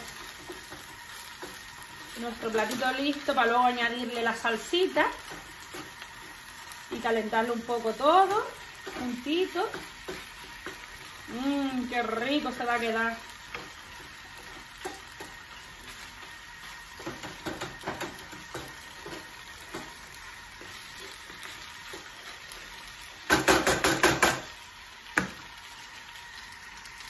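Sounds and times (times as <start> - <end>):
meat sizzling in a frying pan: 0.0 - 27.0.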